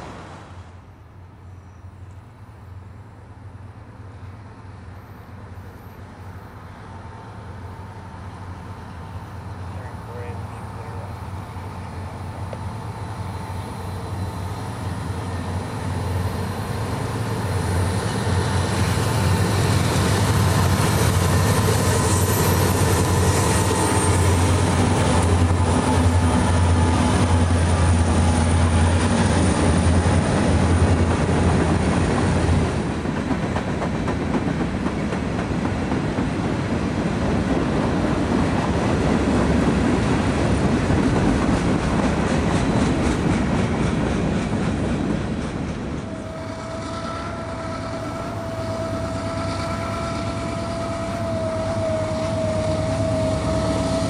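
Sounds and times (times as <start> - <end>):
diesel locomotive engine drone: 0.0 - 54.0
train cars rolling on rails: 0.0 - 54.0.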